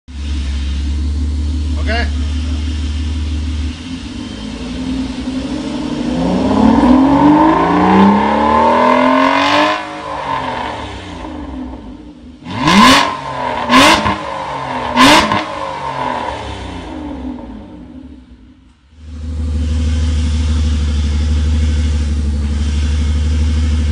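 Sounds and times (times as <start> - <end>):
car engine idling and revving: 0.1 - 23.9.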